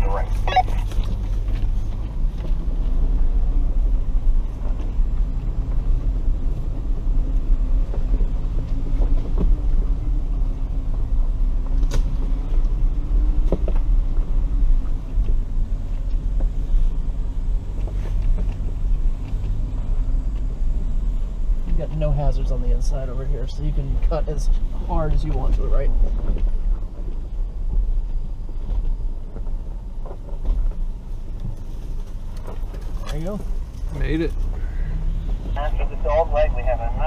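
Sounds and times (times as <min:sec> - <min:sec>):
vehicle engine rumble: 0:00.0 - 0:37.0.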